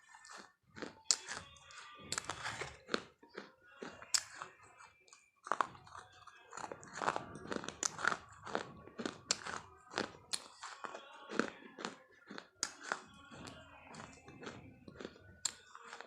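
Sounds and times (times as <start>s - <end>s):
crunchy food being chewed: 0.0s - 16.0s.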